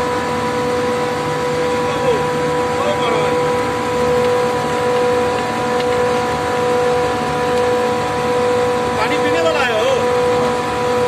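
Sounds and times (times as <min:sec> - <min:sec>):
chiller machine running: 0:00.0 - 0:11.0
constant high whine: 0:00.0 - 0:11.0.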